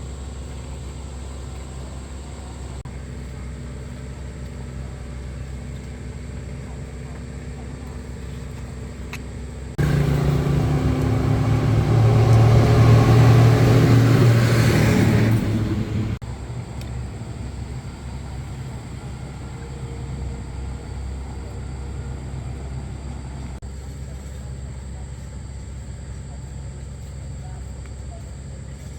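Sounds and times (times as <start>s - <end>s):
motor running loudly: 0.0s - 23.6s
steady low hum: 0.0s - 28.9s.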